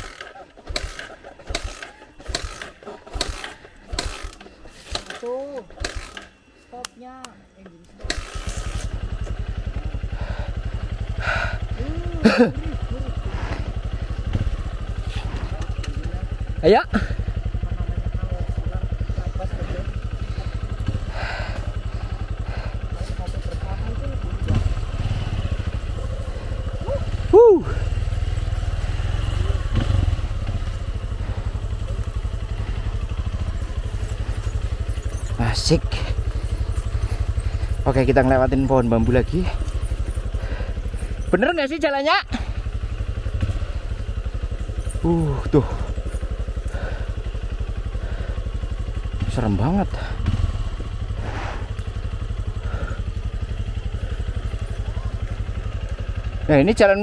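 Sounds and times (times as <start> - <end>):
motorcycle engine running: 0.0 - 6.8, 7.4 - 57.0.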